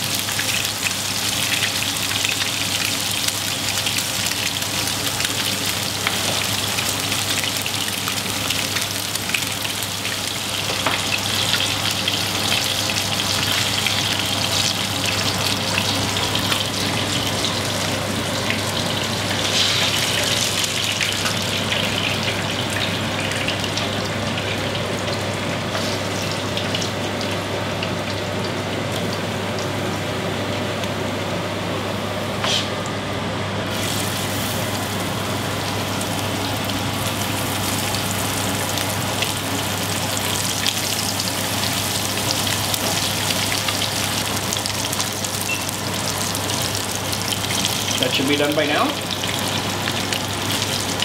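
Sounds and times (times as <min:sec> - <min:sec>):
fish sizzling in hot oil: 0:00.0 - 0:28.5, 0:33.7 - 0:51.0.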